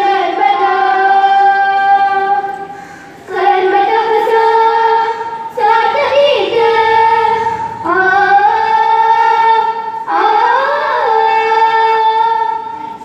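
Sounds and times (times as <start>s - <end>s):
child singing long notes: 0.0s - 13.0s.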